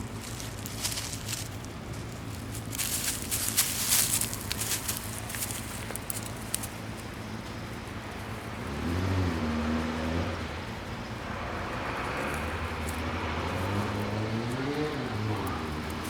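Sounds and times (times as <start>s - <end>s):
car engine passing by: 0.0s - 16.0s.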